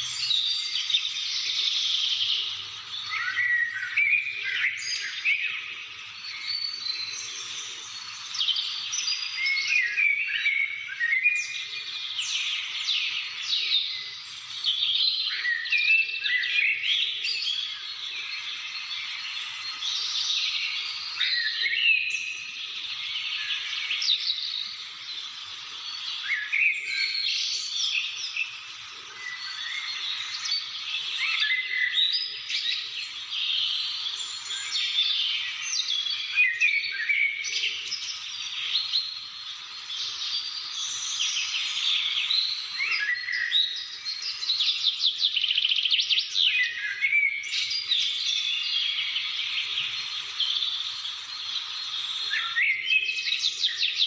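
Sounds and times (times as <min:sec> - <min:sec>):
chorus of birds singing: 0:00.0 - 0:54.0.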